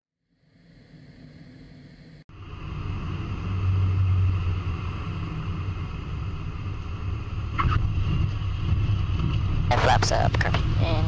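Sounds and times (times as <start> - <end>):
small plane engine drone: 0.2 - 11.0
airflow noise in cabin: 0.3 - 11.0.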